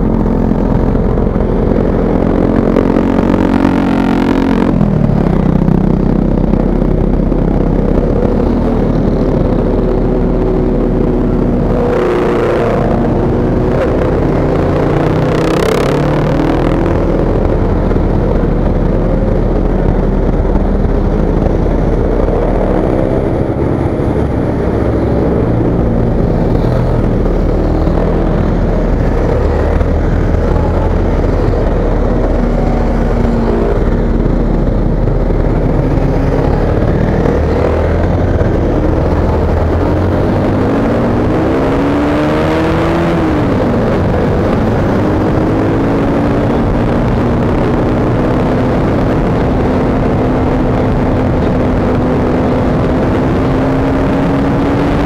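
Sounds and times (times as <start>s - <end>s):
motorcycle engine cruising: 0.0s - 55.0s
wind rumble on microphone: 0.0s - 55.0s.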